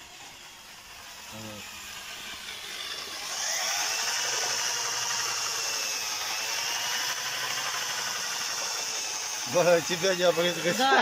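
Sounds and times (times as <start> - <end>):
electric drill mixing paint: 0.0 - 11.0.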